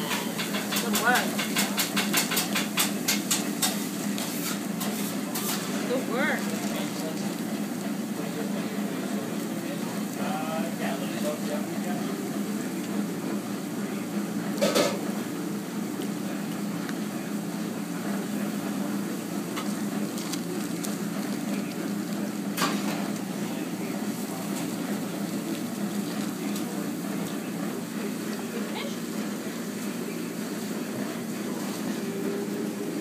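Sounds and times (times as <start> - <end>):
kitchen hum and hiss: 0.0 - 33.0.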